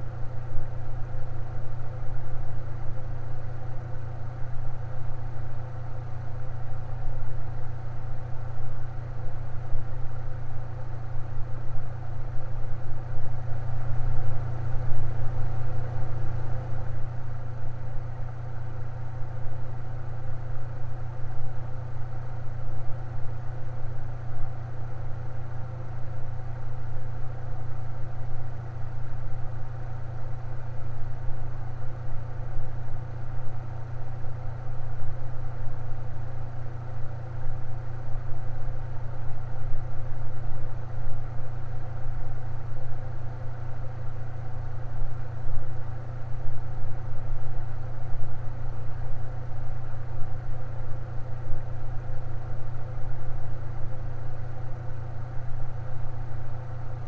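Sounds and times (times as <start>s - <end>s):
electric fan motor hum: 0.0s - 57.0s.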